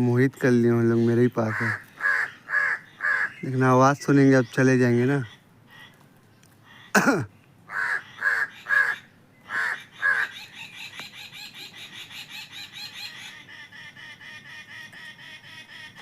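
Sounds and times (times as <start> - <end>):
crows cawing: 0.9 - 3.7, 4.4 - 16.0.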